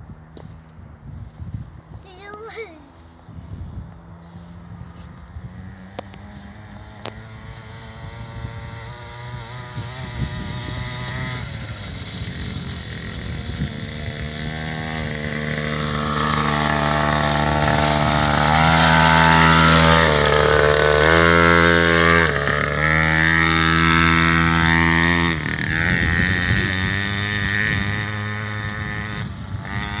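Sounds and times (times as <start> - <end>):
dirt bike engine running: 4.0 - 30.0.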